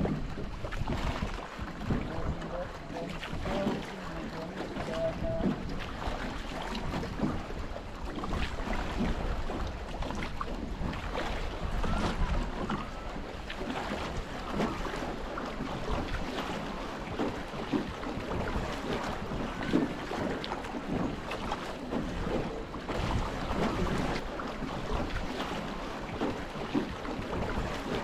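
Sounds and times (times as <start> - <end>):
wind buffeting microphone: 0.0 - 25.6
water splashing around boat: 0.0 - 28.0.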